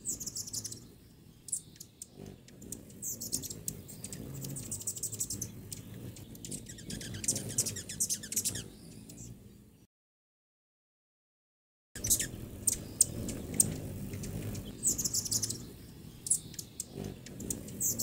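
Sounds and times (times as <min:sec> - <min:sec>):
small birds chirping: 0:00.0 - 0:09.9, 0:12.0 - 0:18.0.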